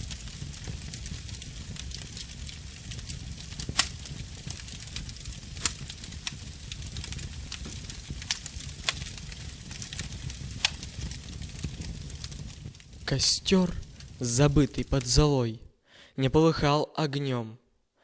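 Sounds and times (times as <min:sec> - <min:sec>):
wood fire crackling and popping: 0:00.0 - 0:15.3.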